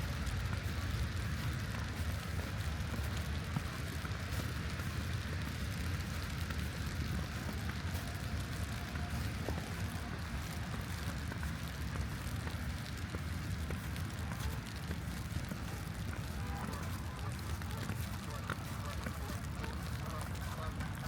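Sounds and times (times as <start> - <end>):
light rain pattering: 0.0 - 21.0
steady low rumble: 0.0 - 21.0.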